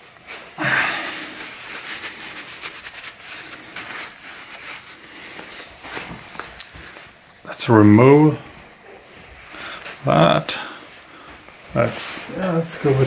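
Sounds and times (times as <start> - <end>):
broad rustle: 0.0 - 13.0.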